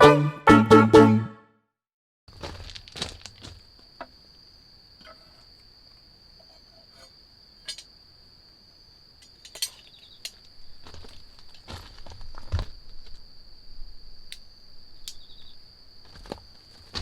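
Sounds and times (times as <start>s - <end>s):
crickets trilling: 2.3s - 17.0s.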